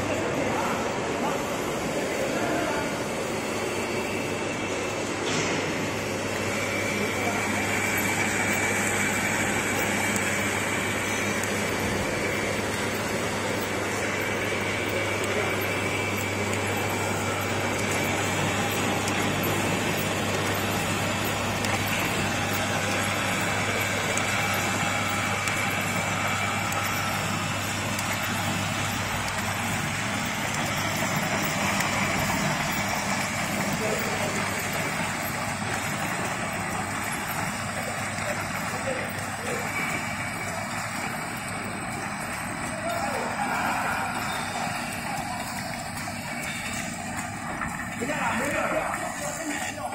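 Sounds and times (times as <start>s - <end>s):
motor hum: 0.0s - 49.9s
machine clatter: 4.9s - 49.9s.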